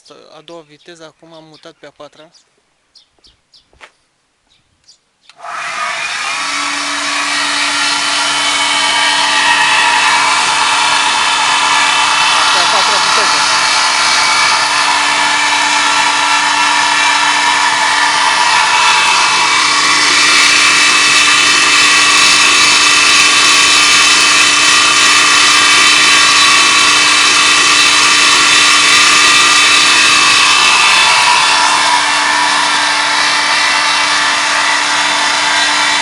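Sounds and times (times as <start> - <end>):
belt grinder running: 5.4 - 36.0.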